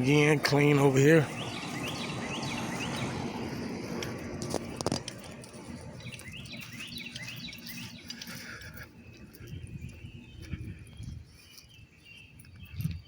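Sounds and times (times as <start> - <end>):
steady low rumble: 0.0 - 11.5
bird chirping: 0.0 - 13.0.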